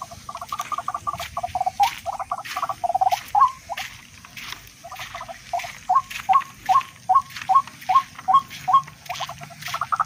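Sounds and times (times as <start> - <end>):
rail bird calling: 0.0 - 10.0.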